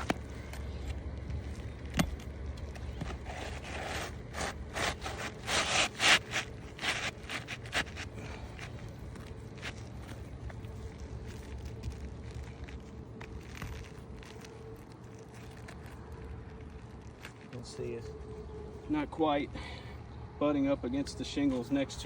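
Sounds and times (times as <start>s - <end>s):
shingle scraping against shingles: 0.0s - 17.8s.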